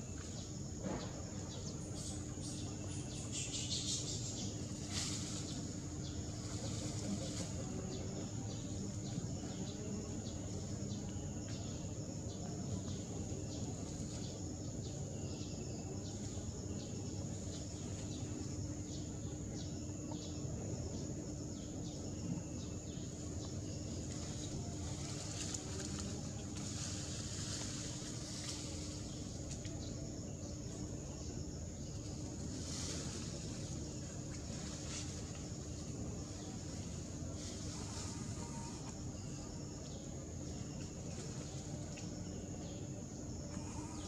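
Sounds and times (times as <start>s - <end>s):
high insect drone: 0.0s - 44.0s.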